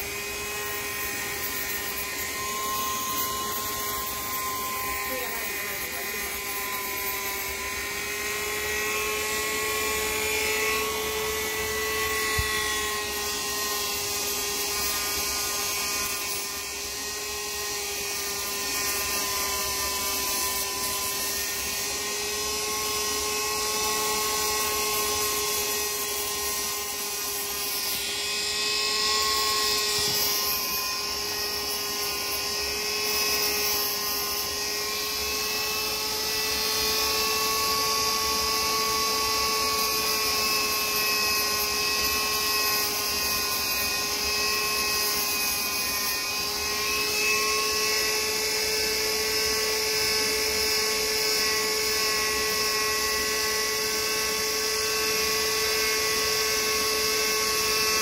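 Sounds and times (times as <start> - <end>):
electric power tool whining: 0.0 - 58.0.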